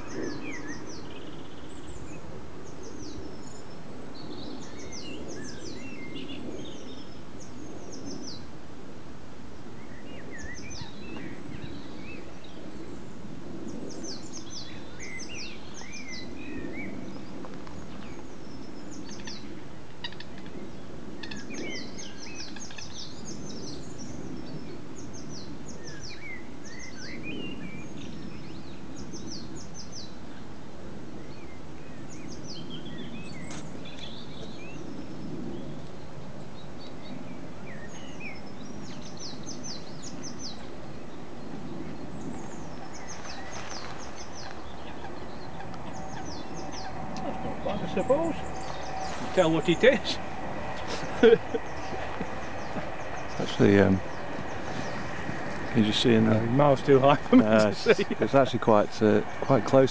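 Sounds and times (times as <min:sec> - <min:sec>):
birds chirping and singing: 0:00.0 - 0:08.5, 0:09.6 - 0:30.5, 0:31.1 - 0:59.9
low background rumble: 0:00.0 - 0:59.9.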